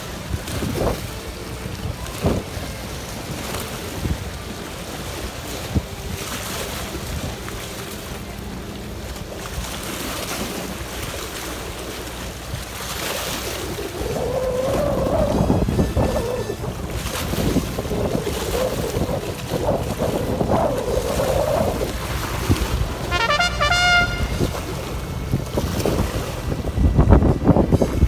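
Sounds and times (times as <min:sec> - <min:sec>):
waves splashing against rocks: 0:00.0 - 0:28.0
wind buffeting microphone: 0:00.0 - 0:28.0.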